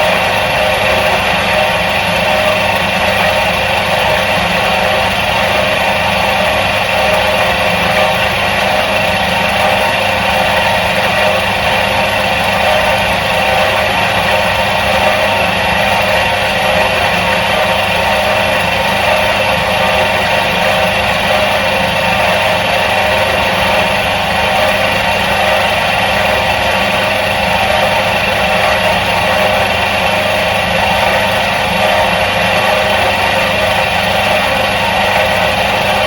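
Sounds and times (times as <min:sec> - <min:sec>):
washing machine motor whirring: 0:00.0 - 0:36.0.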